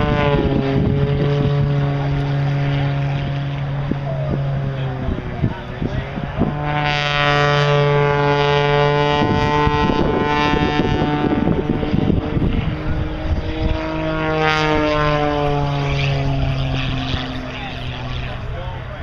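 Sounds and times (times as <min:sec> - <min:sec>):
propeller plane flying by: 0:00.0 - 0:19.0.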